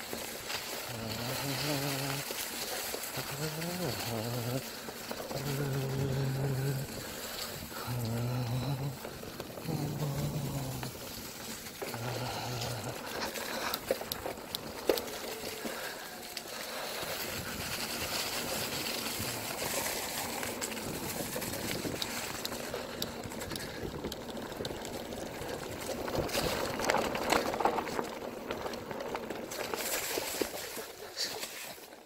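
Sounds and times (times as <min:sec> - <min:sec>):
bicycle tyres rolling over leaves: 0:00.0 - 0:32.0
bike clicks and rattles: 0:00.0 - 0:32.0.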